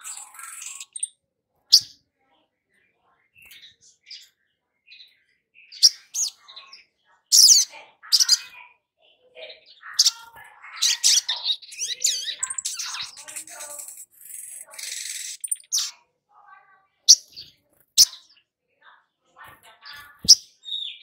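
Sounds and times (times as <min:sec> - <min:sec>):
sunbird chirping and twittering: 0:00.0 - 0:02.1, 0:02.7 - 0:18.6, 0:19.3 - 0:21.0.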